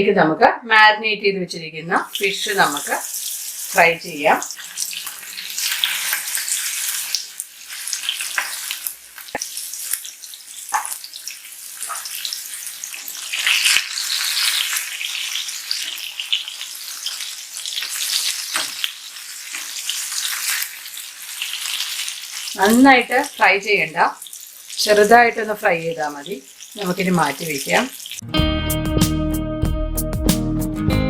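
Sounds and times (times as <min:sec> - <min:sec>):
fish sizzling in oil: 0:02.1 - 0:28.2.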